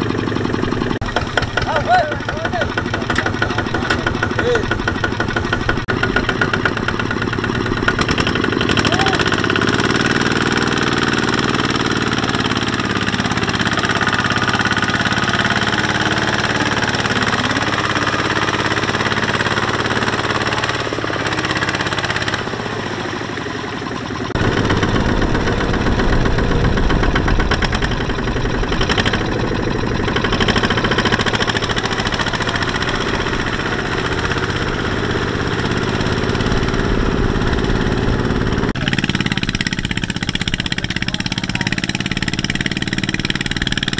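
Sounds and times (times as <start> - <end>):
diesel engine under load: 0.0 - 43.9.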